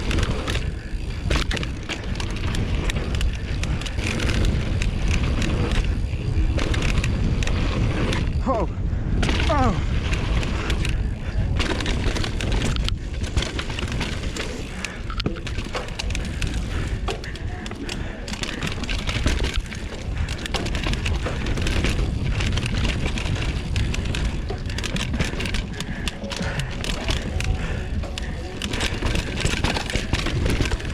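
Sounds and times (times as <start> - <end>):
chain and frame rattling: 0.0 - 8.4, 9.1 - 30.9
bike tyres rumbling over dirt: 0.0 - 30.9
wind buffeting microphone: 0.0 - 30.9.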